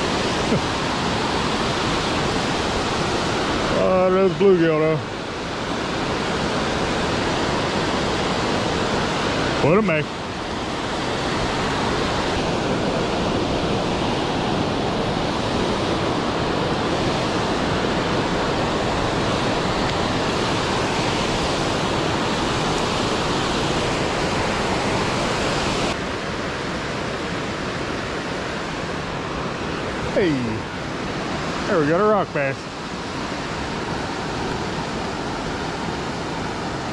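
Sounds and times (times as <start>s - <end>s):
creek flowing: 0.0s - 36.9s.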